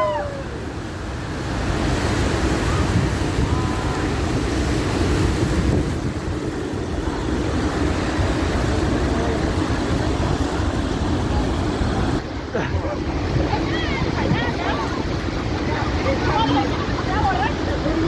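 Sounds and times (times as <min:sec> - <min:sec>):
waterfall roaring: 0:00.0 - 0:18.0
wind buffeting microphone: 0:00.0 - 0:18.0.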